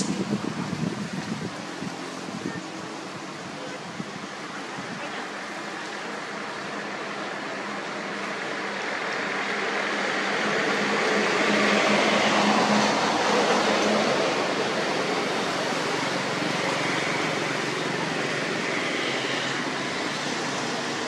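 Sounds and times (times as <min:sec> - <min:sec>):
vehicle passing on road: 0:00.0 - 0:21.0.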